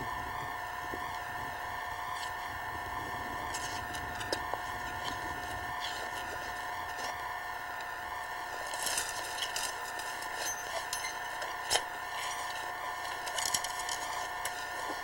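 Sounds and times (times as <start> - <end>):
steady hum and hiss: 0.0 - 15.0
twigs and brush crackling: 0.1 - 15.0.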